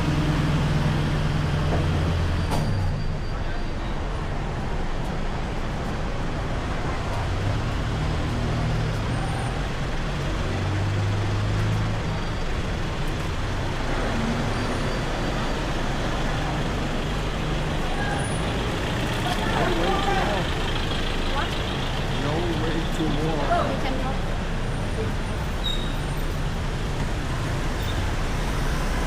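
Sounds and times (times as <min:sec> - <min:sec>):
road traffic noise: 0:00.0 - 0:29.0
vehicle engine humming: 0:04.2 - 0:29.0.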